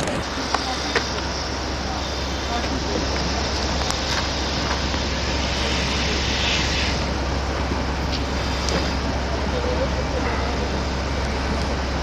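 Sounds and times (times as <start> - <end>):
broad hiss: 0.0 - 12.0
vehicle engines rumbling: 0.0 - 12.0.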